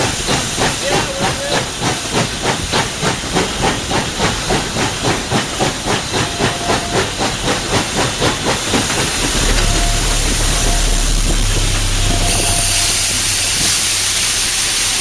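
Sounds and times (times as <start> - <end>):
steady steam rush: 0.0 - 15.0
steam locomotive exhaust chuffs: 0.0 - 15.0.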